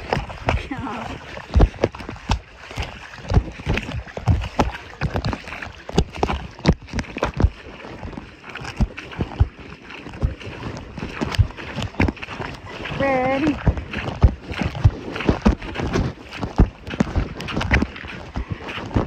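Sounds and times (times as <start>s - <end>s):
knocks in water: 0.0s - 19.0s
river water splashing: 0.0s - 19.0s.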